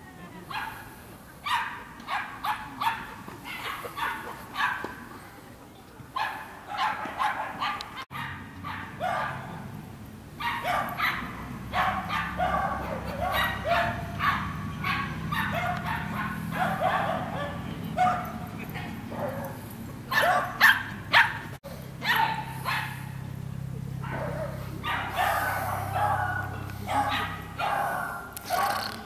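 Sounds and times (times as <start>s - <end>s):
dog barking: 1.4s - 5.0s, 6.2s - 9.5s, 10.4s - 23.2s, 24.0s - 28.8s.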